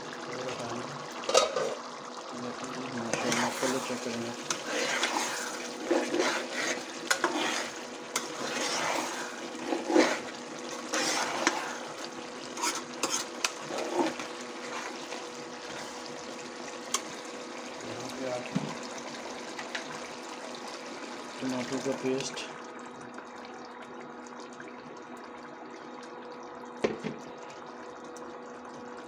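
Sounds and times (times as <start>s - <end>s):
meat bubbling in a pot: 0.0s - 29.0s.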